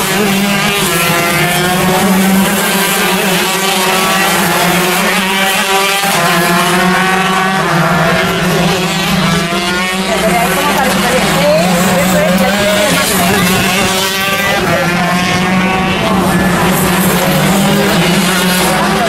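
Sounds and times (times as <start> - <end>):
kart engines racing: 0.0 - 19.0.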